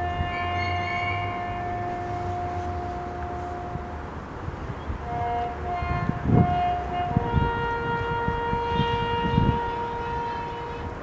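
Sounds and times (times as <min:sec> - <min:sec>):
bugle call: 0:00.0 - 0:04.1, 0:05.0 - 0:11.0.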